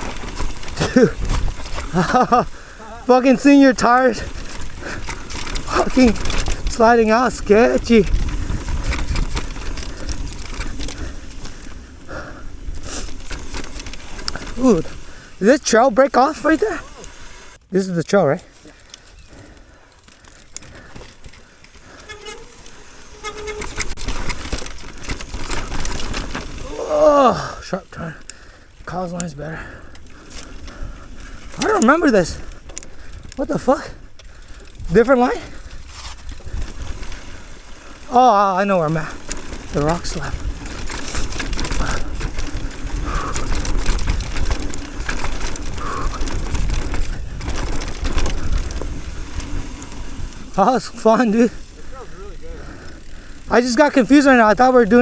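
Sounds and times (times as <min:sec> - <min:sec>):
bike whine: 0:00.0 - 0:17.7, 0:18.4 - 0:55.0
bike tyres and wind noise: 0:00.0 - 0:55.0.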